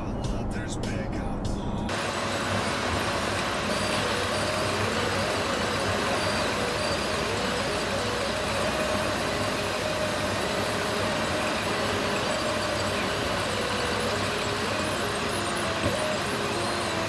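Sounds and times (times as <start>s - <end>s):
car road noise at highway speed: 0.0s - 17.0s.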